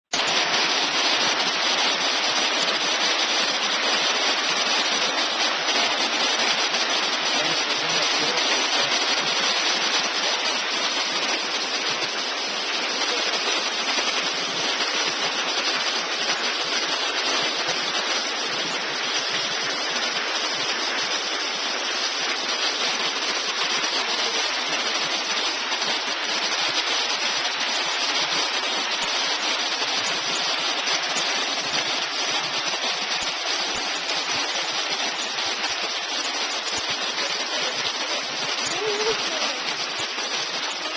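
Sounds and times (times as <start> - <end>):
rain falling: 0.1 - 40.9.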